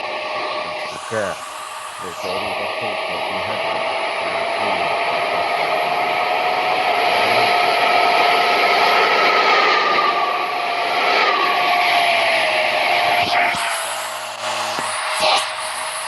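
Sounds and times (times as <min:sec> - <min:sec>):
high whine: 0:00.0 - 0:16.0.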